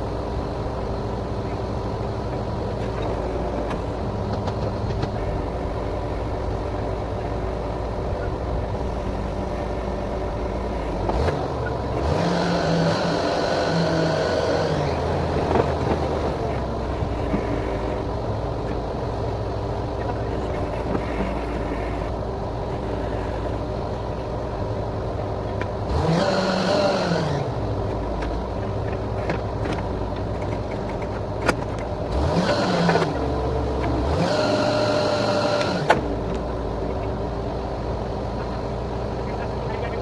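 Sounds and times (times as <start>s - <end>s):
drilling rig engine running: 0.0s - 40.0s.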